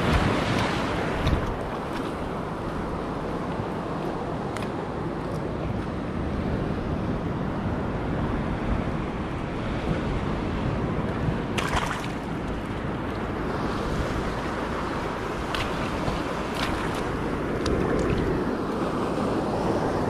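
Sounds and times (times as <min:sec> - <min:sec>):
surf washing over rocks: 0:00.0 - 0:20.0
wind buffeting microphone: 0:00.0 - 0:20.0.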